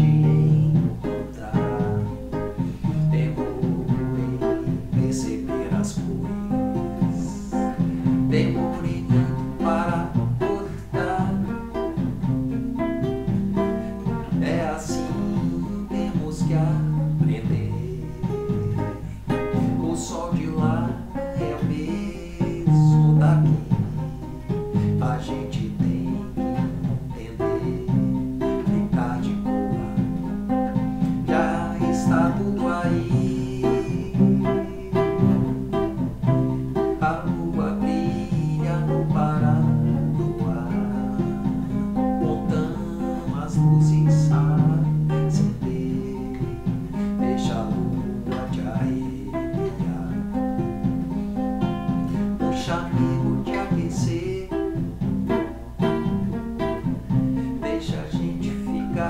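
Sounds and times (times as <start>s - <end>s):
drum machine beat: 0.0s - 59.0s
guitalele strummed and plucked: 0.0s - 59.0s
man singing: 0.0s - 59.0s.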